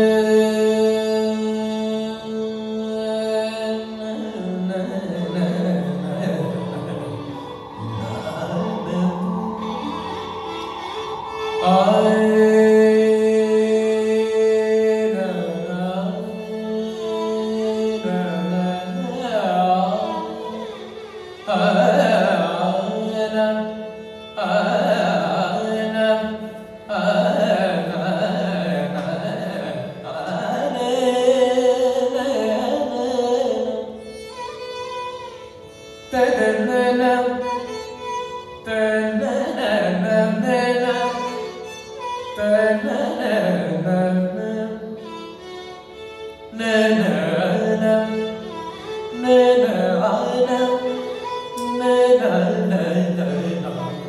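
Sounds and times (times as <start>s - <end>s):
man singing gliding phrases: 0.0s - 34.1s, 36.1s - 38.0s, 38.6s - 54.0s
violin accompaniment: 0.0s - 54.0s.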